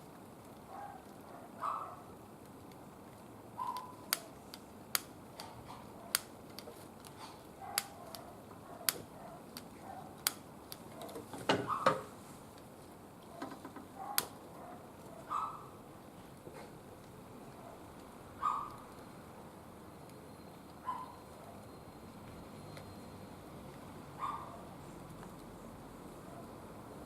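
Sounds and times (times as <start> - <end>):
wood fire crackling: 0.0 - 22.5.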